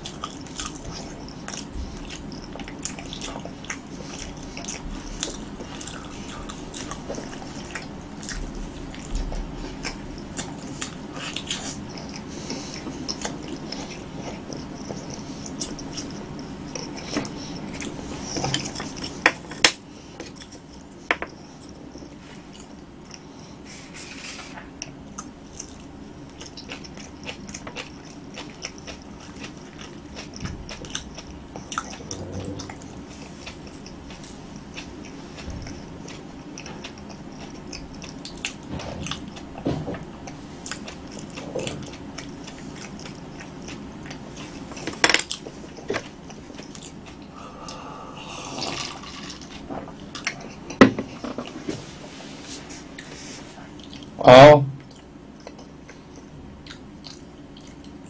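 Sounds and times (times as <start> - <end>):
person chewing food: 0.0 - 54.2, 54.8 - 58.0.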